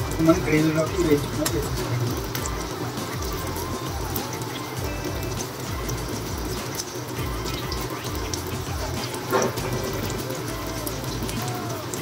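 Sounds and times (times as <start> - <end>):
baby corn sizzling in oil: 0.0 - 12.0
soft background music: 0.0 - 12.0.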